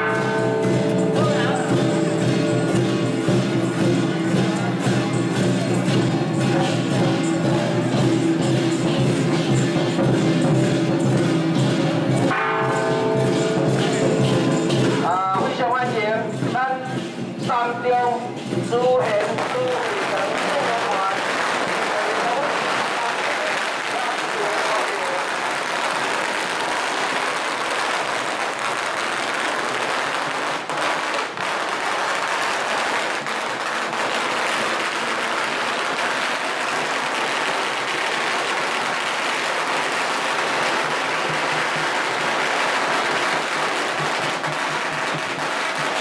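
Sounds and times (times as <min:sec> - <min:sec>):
firecrackers crackling: 0:00.0 - 0:46.0.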